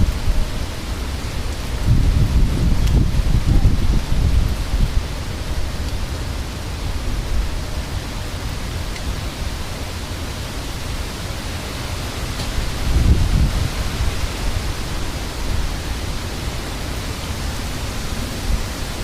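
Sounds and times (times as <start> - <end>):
heavy rain: 0.0 - 19.0
wind: 0.0 - 19.0.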